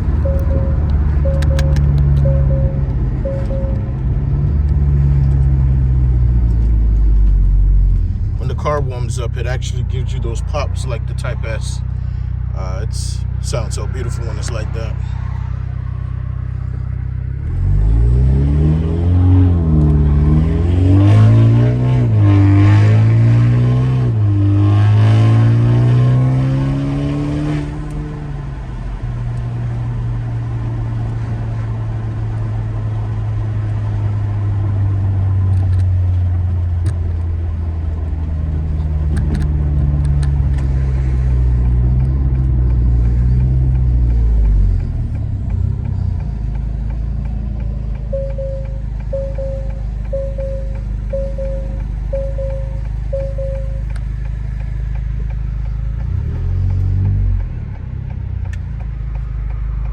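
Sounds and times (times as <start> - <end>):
car exhaust drone: 0.0 - 59.9.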